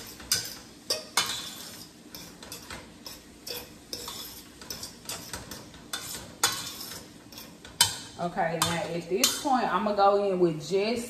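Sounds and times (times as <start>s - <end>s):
metal spoon scraping a pot: 0.0s - 9.7s.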